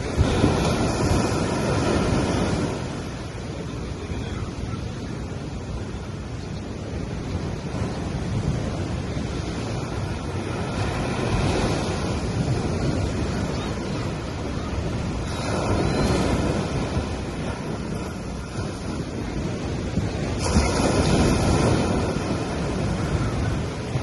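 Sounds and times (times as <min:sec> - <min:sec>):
sea waves breaking on beach: 0:00.0 - 0:24.0.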